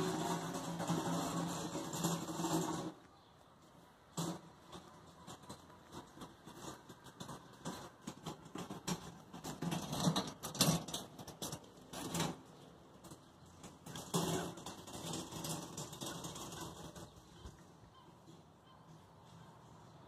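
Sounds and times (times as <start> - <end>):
rustling and scratching: 0.0 - 19.8.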